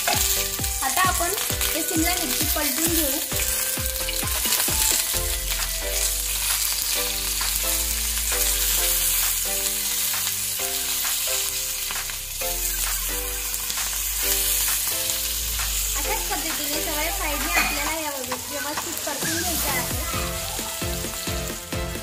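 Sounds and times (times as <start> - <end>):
soft background music: 0.0 - 22.0
vegetables sizzling in hot oil: 0.0 - 22.0.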